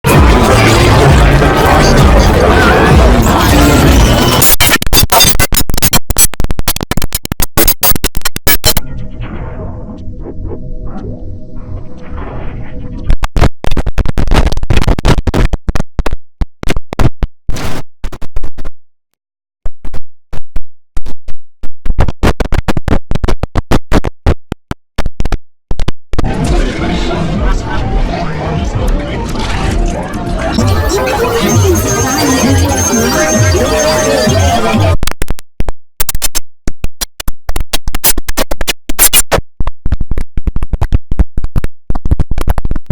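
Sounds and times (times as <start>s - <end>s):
stuttering chopped computer sound: 0.1s - 11.0s, 13.0s - 18.7s, 21.8s - 26.8s, 28.8s - 35.4s, 36.0s - 42.9s.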